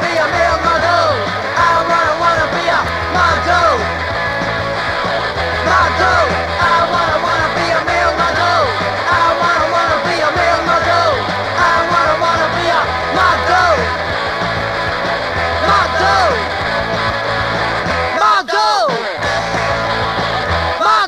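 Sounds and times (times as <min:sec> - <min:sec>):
punk rock band playing: 0:00.0 - 0:21.0.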